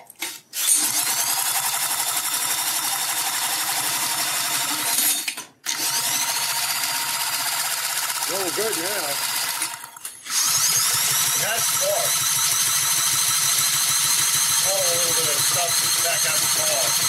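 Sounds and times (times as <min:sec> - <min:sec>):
power tool motor whining: 0:00.2 - 0:17.0.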